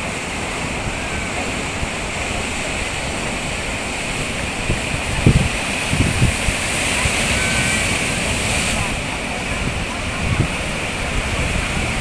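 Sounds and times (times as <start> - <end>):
sea waves roaring surf: 0.0 - 12.0.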